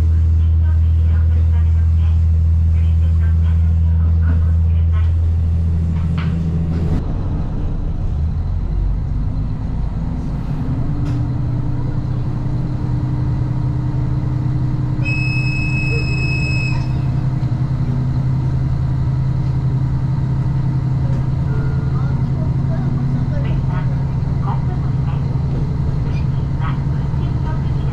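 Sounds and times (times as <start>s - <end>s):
vehicle engine droning: 0.0s - 27.9s.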